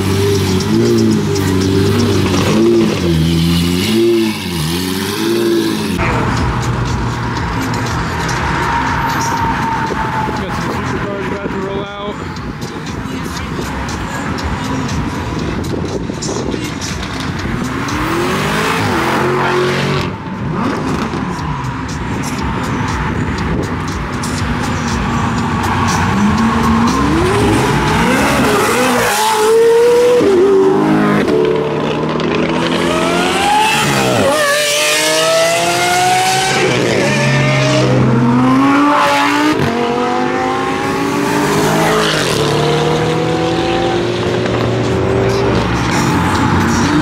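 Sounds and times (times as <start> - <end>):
car engines revving through gears: 0.0 - 47.0.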